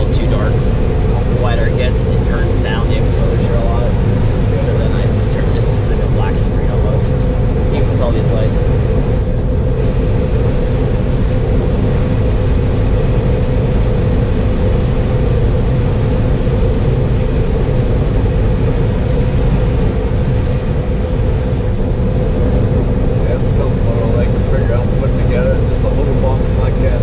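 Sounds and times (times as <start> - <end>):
combine harvester droning: 0.0 - 27.0
steady machine whine: 0.0 - 27.0.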